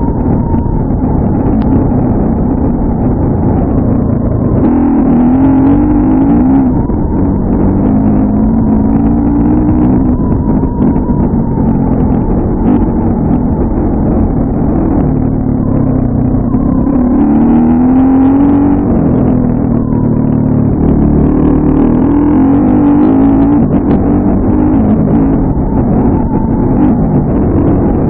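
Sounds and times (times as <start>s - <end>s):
dirt bike engine revving: 3.2s - 28.0s.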